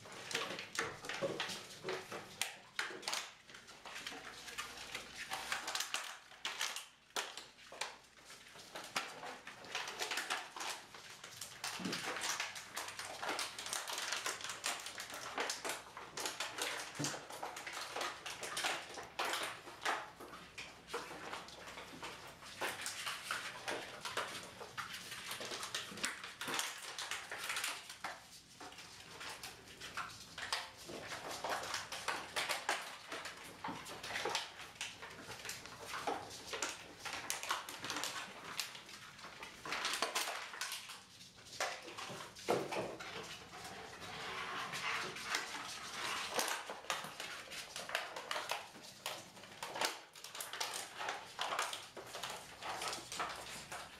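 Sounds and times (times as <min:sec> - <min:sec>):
puppy claws clicking on hard floor: 0:00.0 - 0:53.9.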